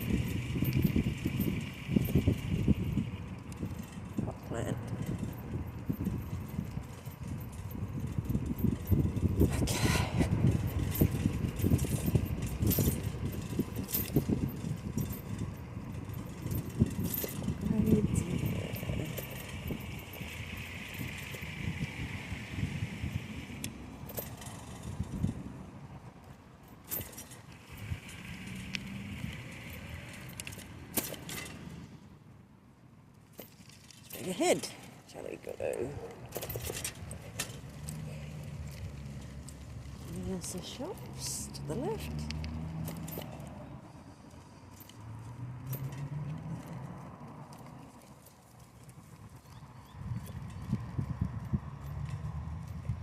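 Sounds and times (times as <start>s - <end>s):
bicycle clicks and rattles: 0.0s - 32.0s, 33.1s - 53.0s
wind and tyres rumbling: 0.0s - 53.0s.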